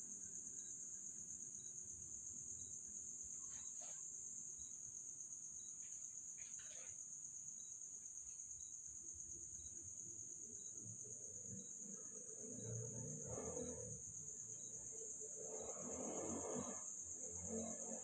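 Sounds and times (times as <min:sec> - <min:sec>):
night insects chirping: 0:00.0 - 0:18.0.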